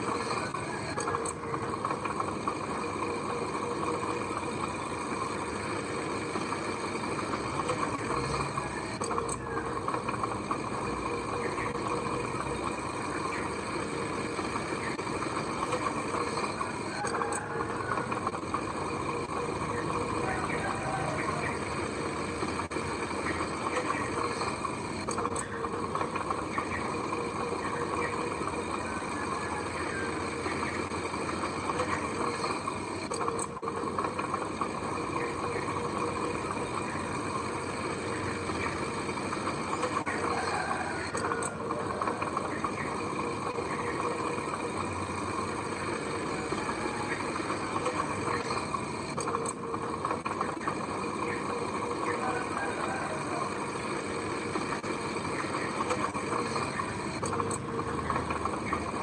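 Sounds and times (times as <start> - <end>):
heavy machinery engines running: 0.0 - 59.0.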